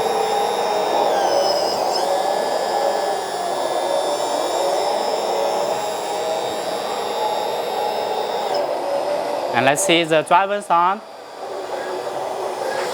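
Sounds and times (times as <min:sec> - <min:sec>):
cooling fan rushing: 0:00.0 - 0:12.9
high whine: 0:00.0 - 0:12.9
simulated hydraulic sound: 0:00.0 - 0:12.9.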